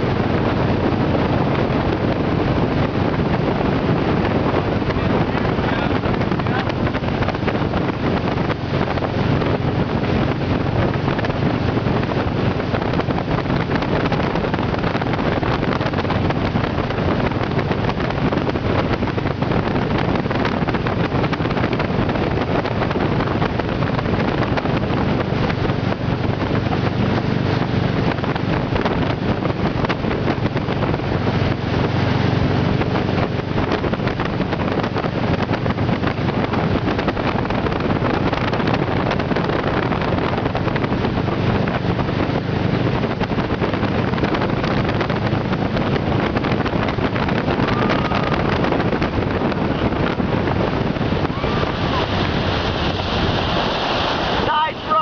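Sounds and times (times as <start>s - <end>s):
motorboat engine running: 0.0s - 55.0s
wind noise on microphone: 0.0s - 55.0s.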